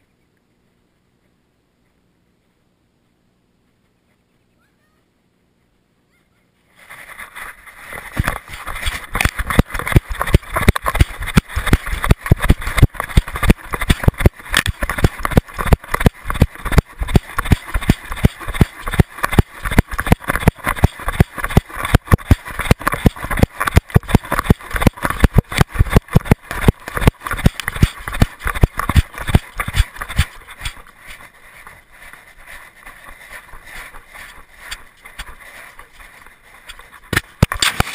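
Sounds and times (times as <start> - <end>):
camera thumping with dog strides: 6.9 - 37.9.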